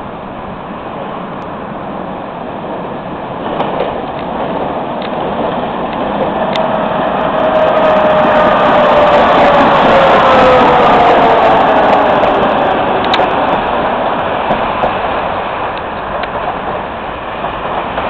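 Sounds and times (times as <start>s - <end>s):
tram wheels rumbling on rails: 0.0s - 18.0s
tram whine: 0.0s - 18.0s.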